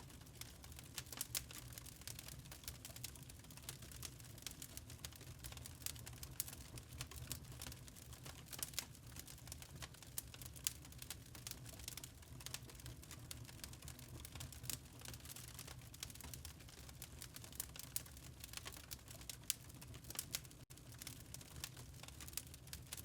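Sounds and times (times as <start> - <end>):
faint low flame rumble: 0.0 - 23.0
wood fire crackling: 0.0 - 23.0.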